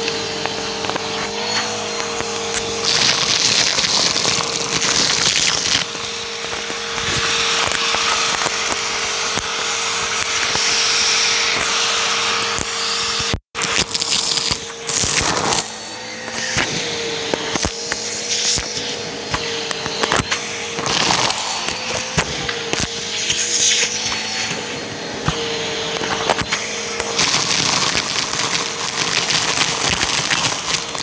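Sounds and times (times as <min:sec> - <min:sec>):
debris rattling up vacuum hose: 0:00.0 - 0:16.6, 0:17.3 - 0:31.0
vacuum cleaner motor whine: 0:00.0 - 0:31.0.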